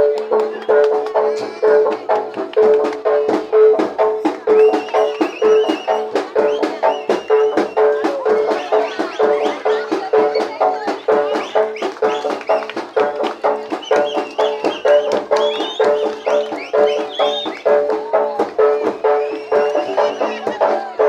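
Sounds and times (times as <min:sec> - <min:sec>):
rapid hand-drum strokes: 0:00.0 - 0:21.0.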